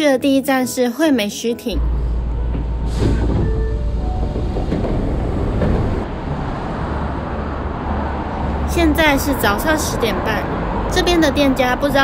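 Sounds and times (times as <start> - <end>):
subway car rumbling: 1.7 - 12.0.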